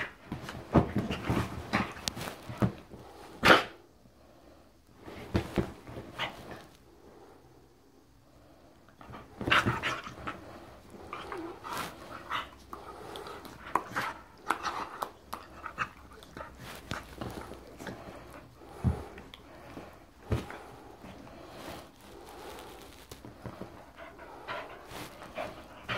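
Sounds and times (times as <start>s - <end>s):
dog play noises: 0.0s - 3.8s, 8.9s - 25.9s.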